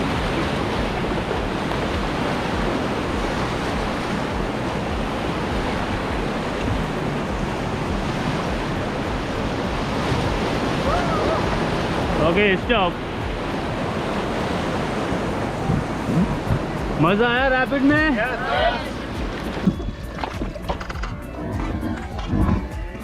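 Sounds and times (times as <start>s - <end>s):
whitewater rushing: 0.0s - 23.0s
wind buffeting microphone: 0.0s - 23.0s.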